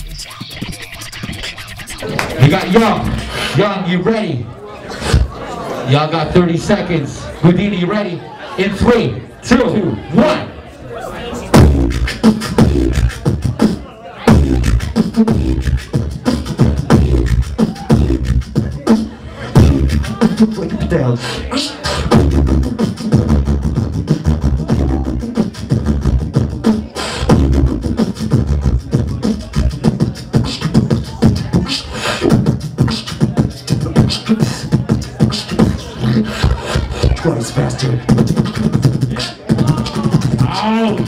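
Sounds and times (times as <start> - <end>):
beatboxing into microphone: 0.0 - 5.5, 11.5 - 41.0.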